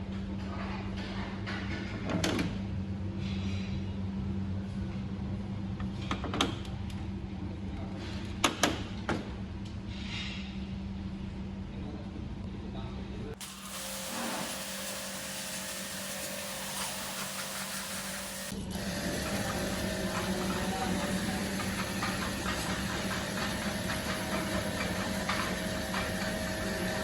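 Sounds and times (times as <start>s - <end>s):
air-conditioning unit humming: 0.0s - 27.0s.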